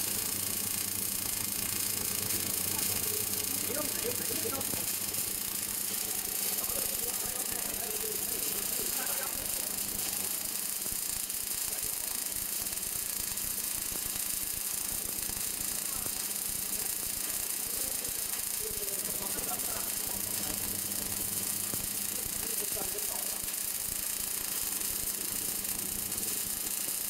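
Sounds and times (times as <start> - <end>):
welding arc hissing: 0.0 - 27.0.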